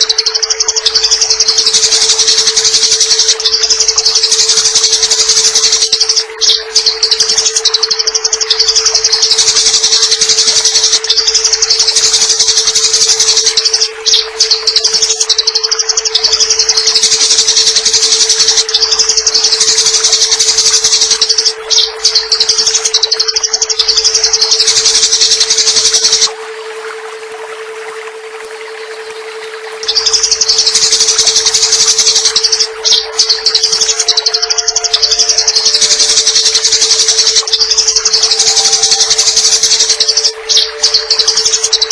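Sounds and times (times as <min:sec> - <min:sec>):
sparrows chattering: 0:00.0 - 0:26.3, 0:29.8 - 0:41.9
running water: 0:00.0 - 0:41.9
steady hum: 0:00.0 - 0:41.9.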